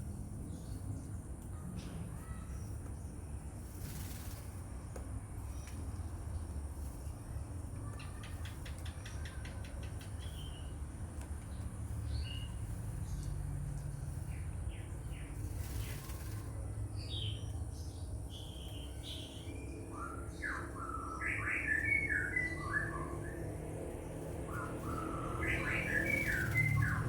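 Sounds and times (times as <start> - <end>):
bird chirps and song: 0.0 - 27.0.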